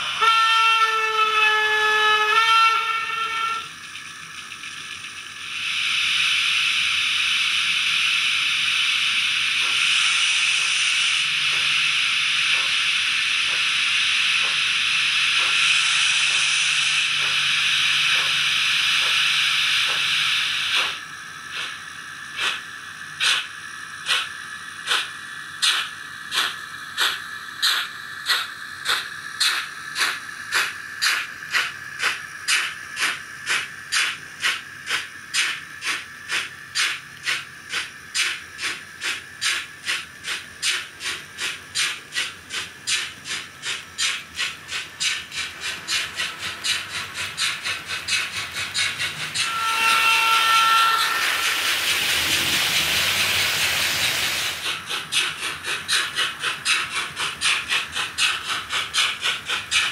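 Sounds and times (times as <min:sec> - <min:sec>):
steam locomotive exhaust chuffs: 0:00.0 - 0:59.9
steady high whine: 0:02.4 - 0:55.4.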